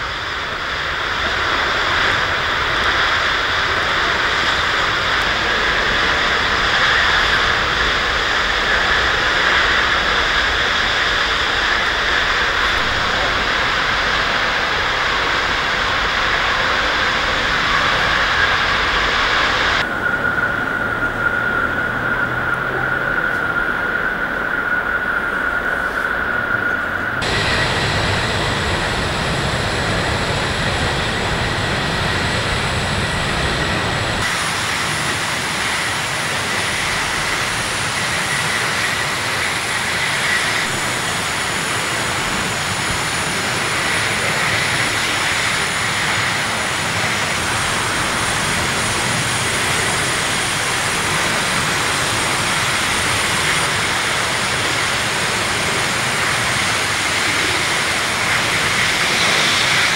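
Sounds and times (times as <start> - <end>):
faint high whine: 0.0 - 59.9
fire rushing: 0.0 - 59.9.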